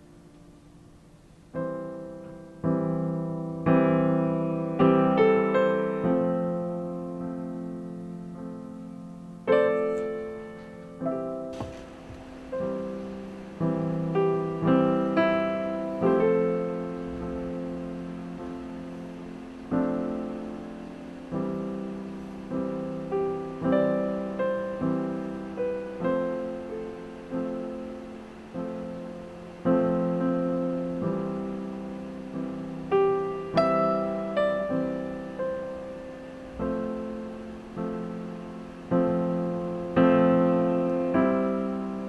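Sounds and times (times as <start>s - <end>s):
soft piano chords and notes: 0.0s - 42.0s.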